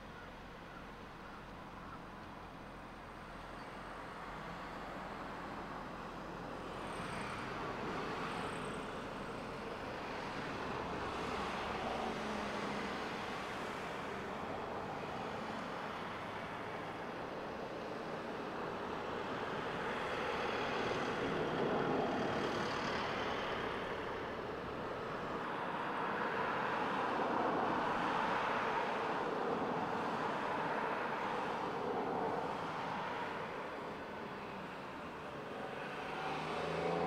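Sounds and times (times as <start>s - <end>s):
road traffic: 0.0s - 37.0s.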